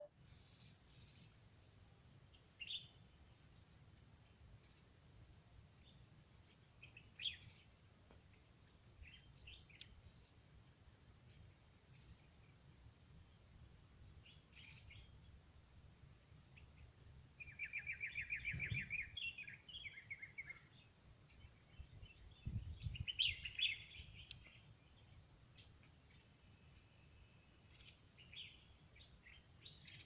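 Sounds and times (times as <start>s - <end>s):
songbirds singing: 0.0s - 30.0s.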